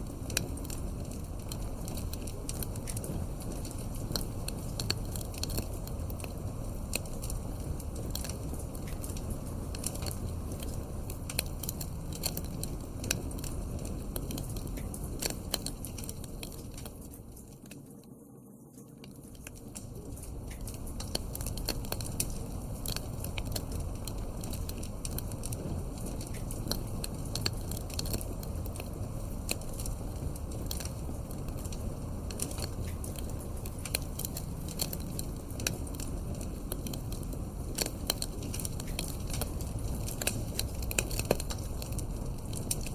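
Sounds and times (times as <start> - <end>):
wood fire crackling and popping: 0.0 - 18.1, 18.8 - 42.9.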